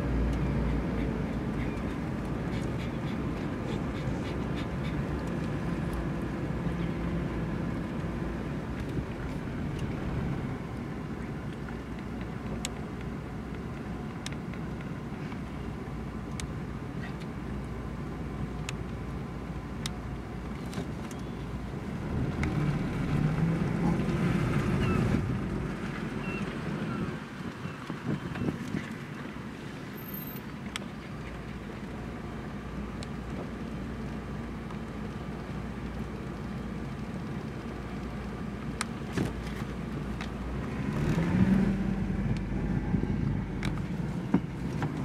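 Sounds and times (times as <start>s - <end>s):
car engine rumble inside cabin: 0.0s - 45.0s.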